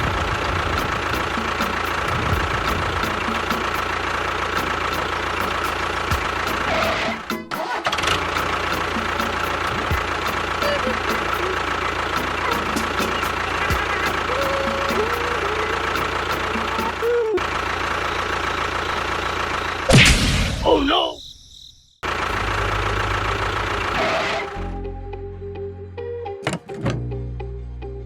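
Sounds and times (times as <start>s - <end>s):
small engine droning: 0.0s - 20.0s, 22.0s - 26.3s.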